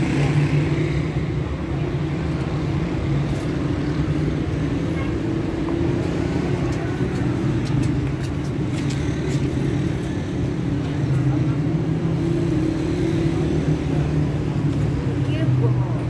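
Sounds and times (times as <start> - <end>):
city traffic drone: 0.0 - 16.0
vehicle engines running: 0.0 - 16.0.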